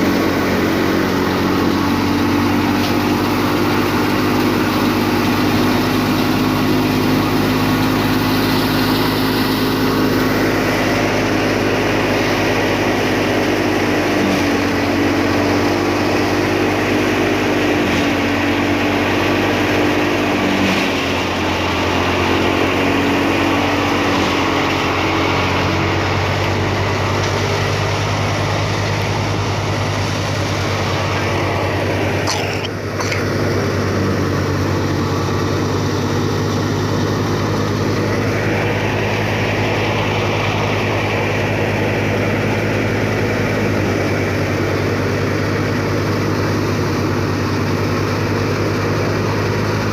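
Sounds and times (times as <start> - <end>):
threshing machine engine drone: 0.0 - 49.9.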